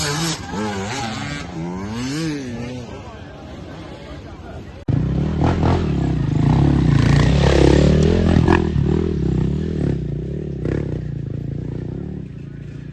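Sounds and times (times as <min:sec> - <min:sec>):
motorcycle engine revving: 0:00.0 - 0:03.3, 0:04.8 - 0:12.9.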